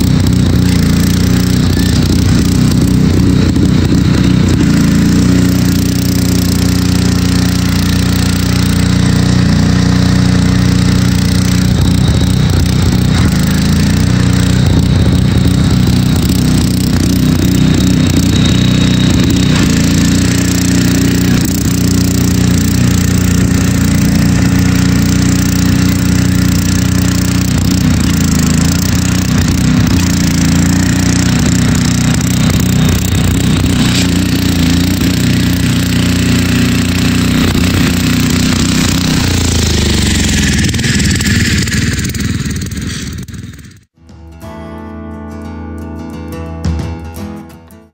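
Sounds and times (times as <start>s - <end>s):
garden tractor engine running: 0.0s - 44.0s.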